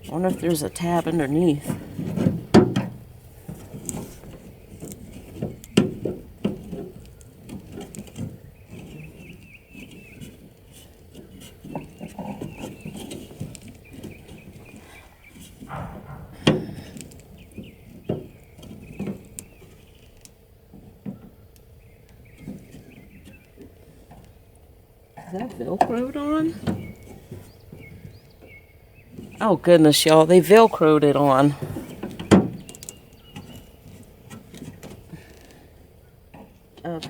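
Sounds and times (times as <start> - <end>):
hard plastic knocking and scraping: 0.0 - 24.4, 25.6 - 29.5, 30.5 - 35.7.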